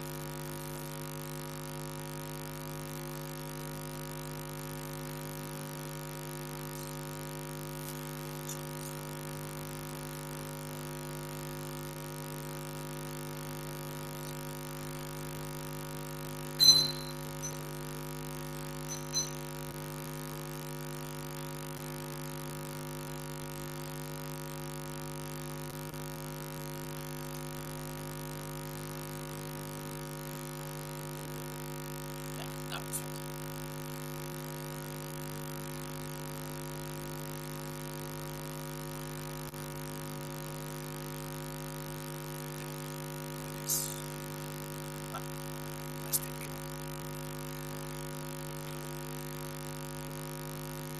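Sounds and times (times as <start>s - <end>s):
electrical mains hum: 0.0s - 50.9s.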